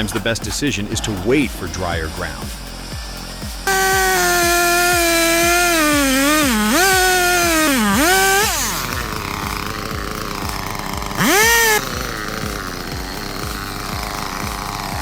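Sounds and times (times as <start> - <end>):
chainsaw revving: 0.0 - 15.0
music beat: 0.0 - 15.0.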